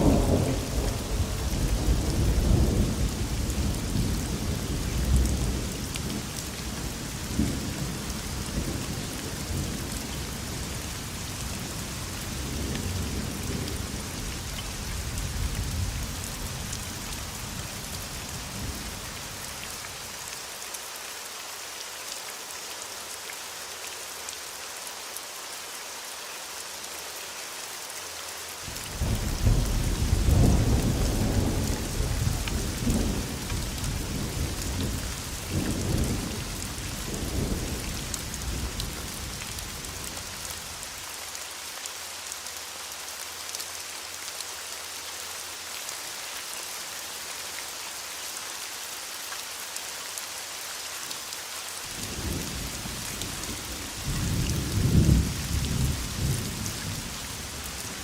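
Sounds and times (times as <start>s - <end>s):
heavy rain hissing on a surface: 0.0s - 58.0s.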